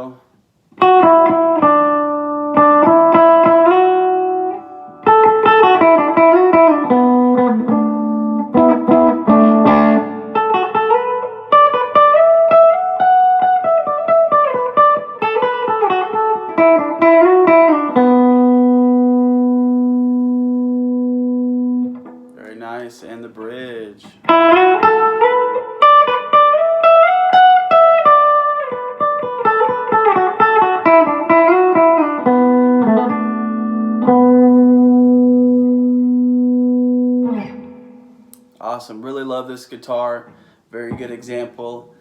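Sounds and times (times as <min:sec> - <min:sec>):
electric guitar playing: 0:00.7 - 0:38.6.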